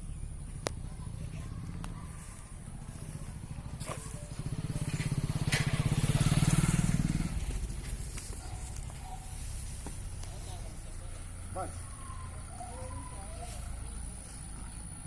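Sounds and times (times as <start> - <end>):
vehicle engine chugging past: 0.0 - 15.0.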